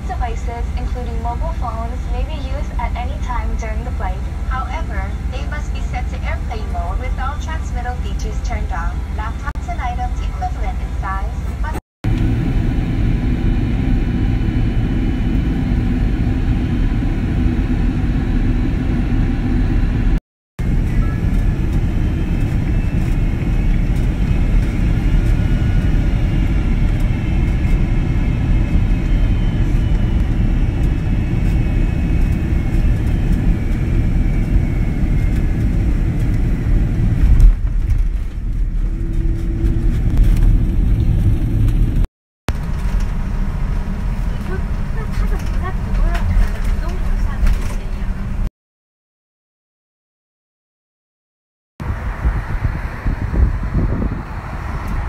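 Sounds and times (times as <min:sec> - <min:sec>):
airliner engine and airflow rumble: 0:00.0 - 0:48.5, 0:51.8 - 0:55.0.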